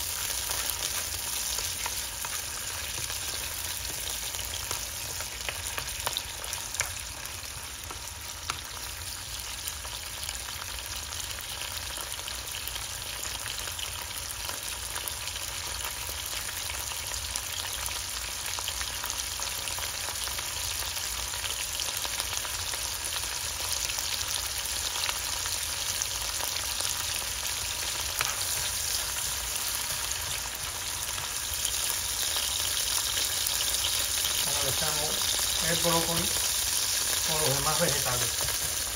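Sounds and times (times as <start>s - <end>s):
vegetables sizzling in frying pan: 0.0s - 38.9s.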